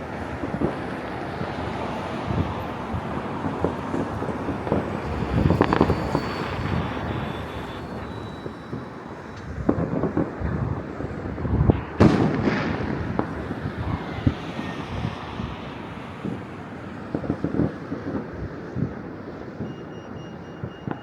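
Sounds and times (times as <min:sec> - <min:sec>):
wind rumble on microphone: 0:00.0 - 0:19.1
distant fireworks banging: 0:00.0 - 0:21.0.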